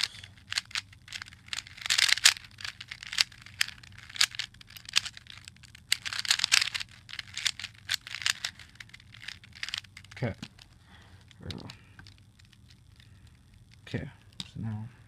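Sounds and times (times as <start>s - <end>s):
plastic cube clicking and rasping: 0.0s - 14.5s.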